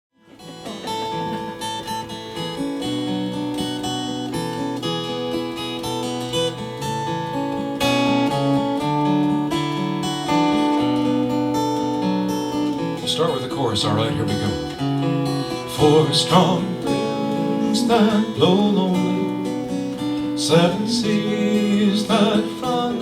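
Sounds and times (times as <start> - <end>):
acoustic guitar strumming: 0.2 - 23.0.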